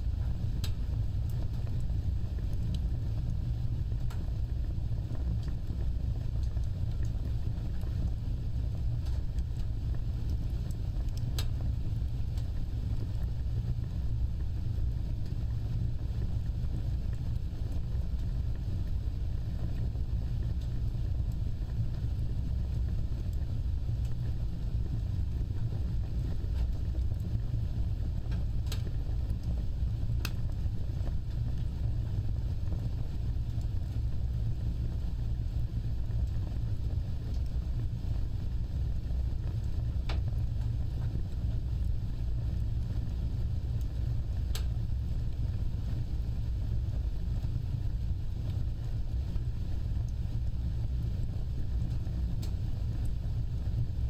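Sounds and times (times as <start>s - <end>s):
fire crackles: 0.0s - 54.0s
fire roaring: 0.0s - 54.0s.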